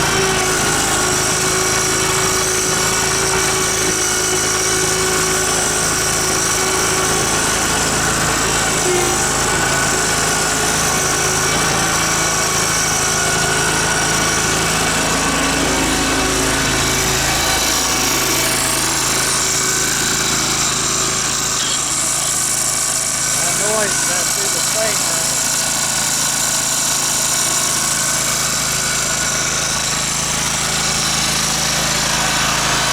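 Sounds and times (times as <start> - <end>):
mower engine running: 0.0 - 32.9.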